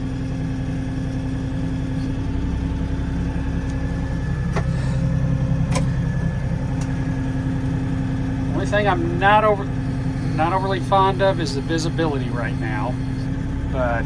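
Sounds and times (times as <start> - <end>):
tractor diesel engine working: 0.0 - 14.0.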